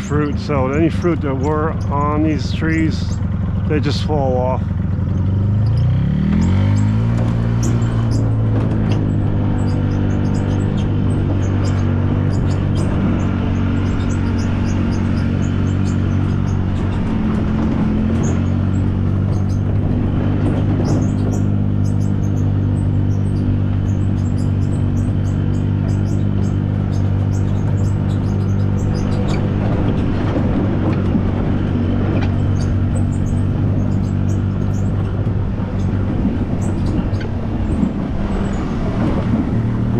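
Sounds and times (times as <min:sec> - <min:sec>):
birds chirping: 0:00.0 - 0:39.9
golf cart humming: 0:00.0 - 0:39.9.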